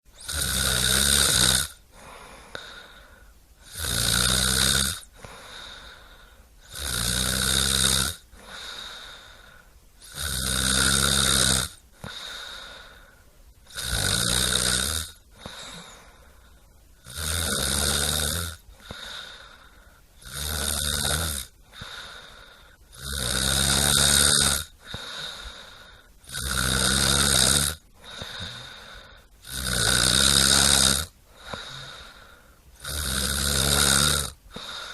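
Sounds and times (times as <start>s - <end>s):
quiet breaths: 0.1s - 34.9s
loud snoring: 0.2s - 1.8s, 3.6s - 6.0s, 6.6s - 9.4s, 10.0s - 13.0s, 13.6s - 16.1s, 17.0s - 34.9s.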